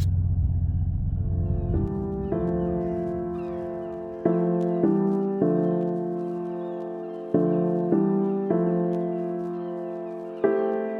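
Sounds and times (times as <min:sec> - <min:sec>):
soft sustained chords: 0:00.0 - 0:09.7.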